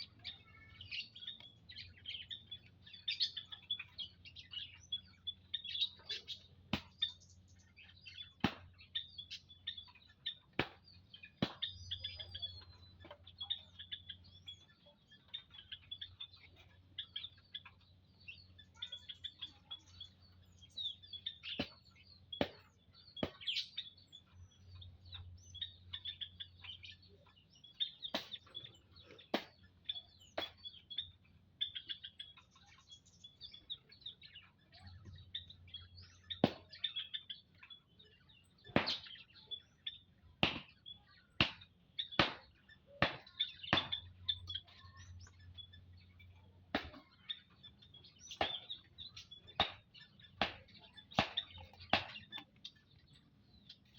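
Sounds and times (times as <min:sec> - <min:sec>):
small songbirds chirping: 0:00.0 - 0:53.9.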